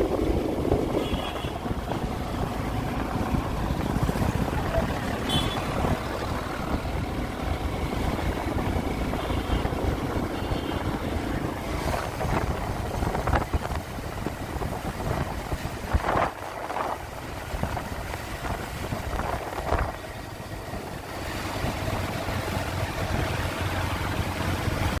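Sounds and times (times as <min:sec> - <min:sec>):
wind noise on microphone: 0:00.0 - 0:23.5
motor vehicle rumble: 0:00.0 - 0:25.0.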